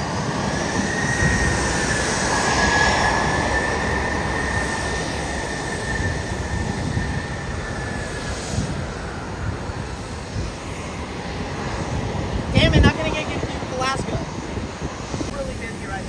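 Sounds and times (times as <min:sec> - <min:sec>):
jet engine high whine: 0:00.0 - 0:16.0
jet engines rumbling: 0:00.0 - 0:16.0.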